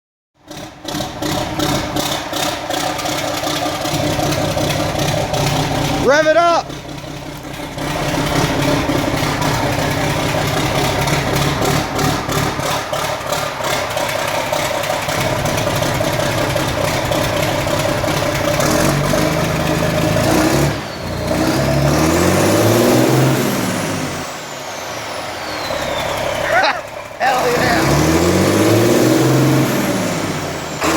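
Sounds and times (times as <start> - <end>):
vehicle engine revving: 0.4 - 30.9.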